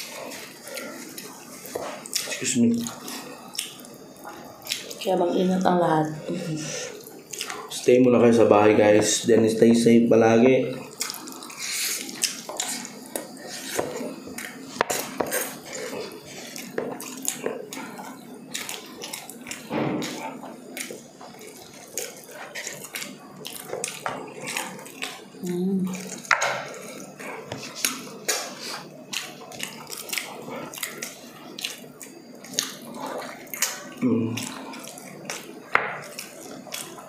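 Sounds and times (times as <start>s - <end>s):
wet chewing and lip-smacking: 0.0s - 5.1s, 6.9s - 7.7s, 10.8s - 37.0s.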